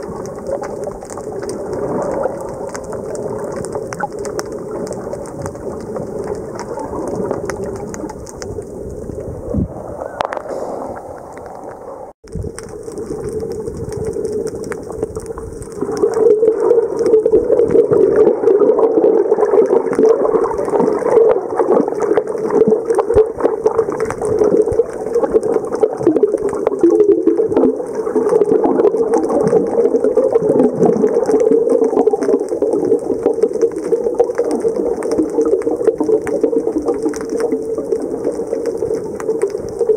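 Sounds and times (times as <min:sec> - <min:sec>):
underwater hum with bubbling: 0:00.0 - 0:39.9.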